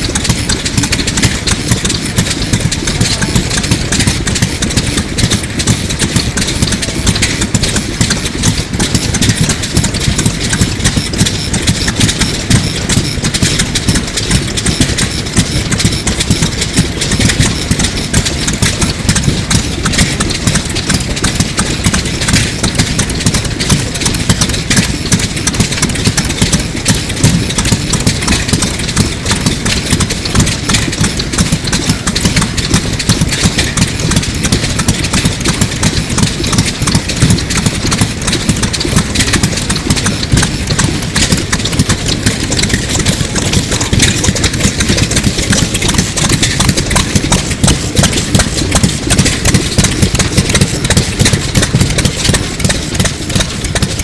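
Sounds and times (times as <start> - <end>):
engine idling with rapid beat: 0.0 - 54.0.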